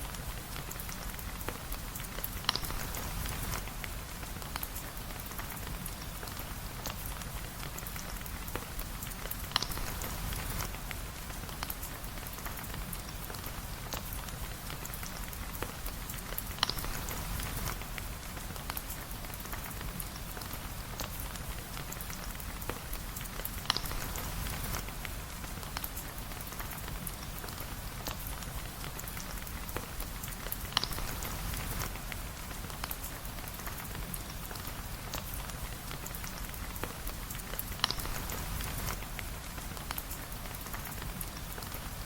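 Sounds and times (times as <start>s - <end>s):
steady rain pattering: 0.0s - 42.0s.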